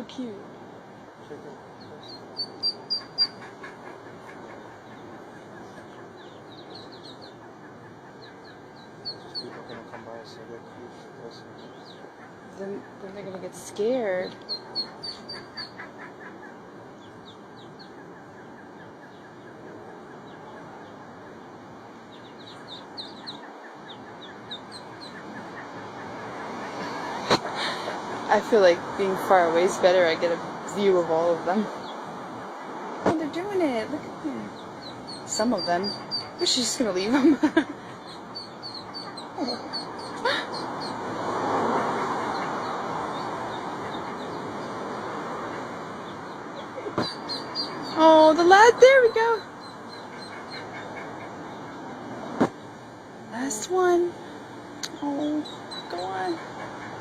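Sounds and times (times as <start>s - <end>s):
broad rushing noise: 0.0s - 57.0s
steady background hiss: 0.0s - 57.0s
ducklings peeping: 1.4s - 28.4s, 29.2s - 52.0s, 54.8s - 57.0s.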